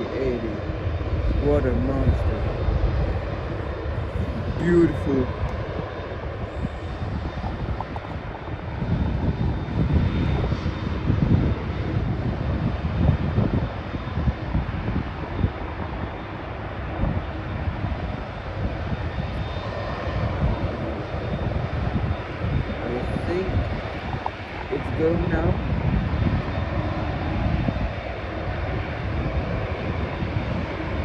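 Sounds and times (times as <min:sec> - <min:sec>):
jet engines rumbling: 0:00.0 - 0:31.0
wind buffeting microphone: 0:00.0 - 0:31.0.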